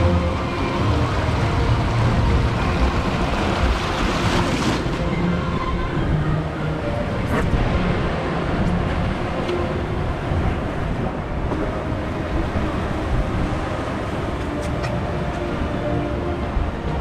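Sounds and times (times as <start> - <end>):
churning water: 0.0 - 17.0
ride machinery rumbling: 0.0 - 17.0.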